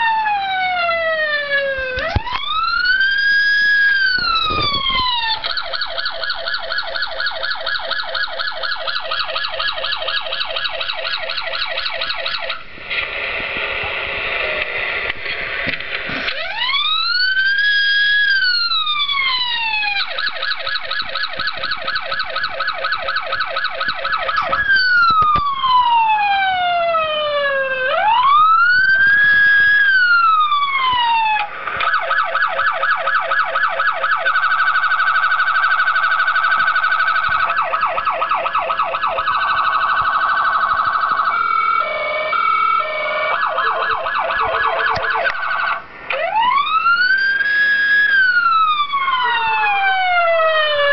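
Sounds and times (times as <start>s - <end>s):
electronic police siren: 0.0s - 12.7s, 16.2s - 50.9s.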